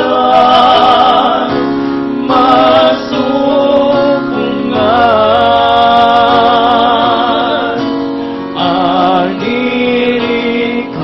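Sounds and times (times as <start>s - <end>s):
instrumental accompaniment: 0.0s - 11.0s
person singing with vibrato: 0.0s - 11.0s.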